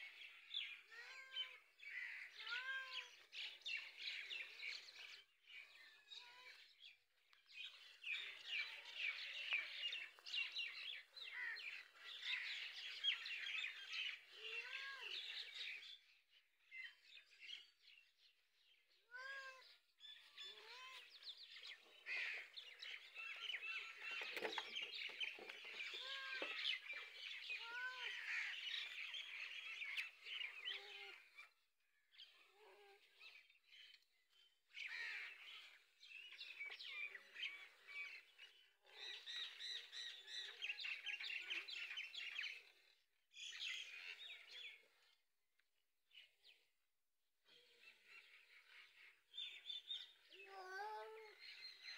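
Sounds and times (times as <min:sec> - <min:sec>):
small birds chirping: 0:00.0 - 0:45.2, 0:47.5 - 0:51.9.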